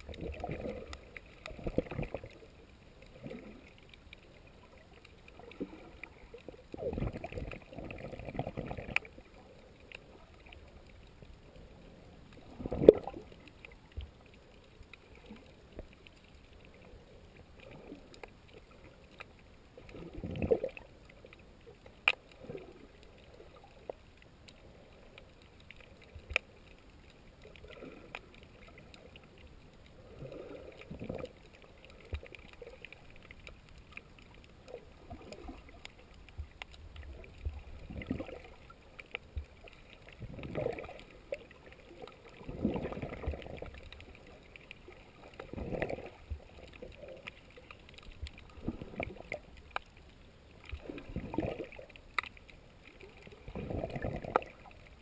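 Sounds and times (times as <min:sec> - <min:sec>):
muffled underwater sloshing: 0:00.0 - 0:55.0.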